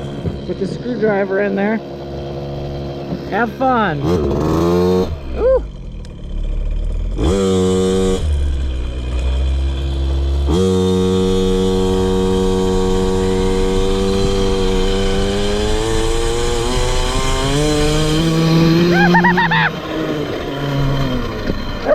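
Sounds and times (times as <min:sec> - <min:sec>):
small two-stroke engine revving: 0:00.0 - 0:21.9.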